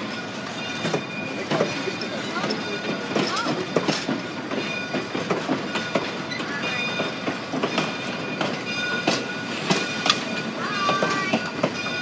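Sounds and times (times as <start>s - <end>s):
wheels clicking over rail joints: 0.0s - 12.0s.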